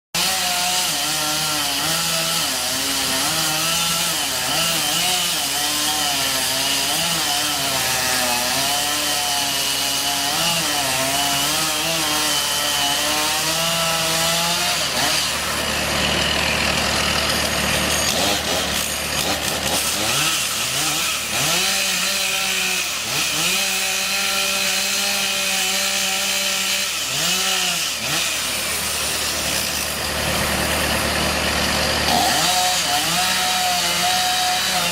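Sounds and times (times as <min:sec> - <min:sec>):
chainsaw revving: 0:00.2 - 0:34.9.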